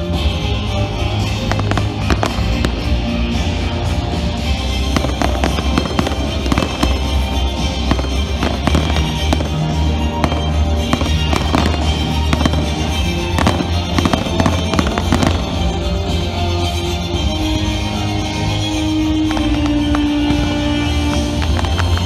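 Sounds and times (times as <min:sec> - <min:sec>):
fireworks bursting and crackling: 0:00.0 - 0:22.0
music playing: 0:00.0 - 0:22.0.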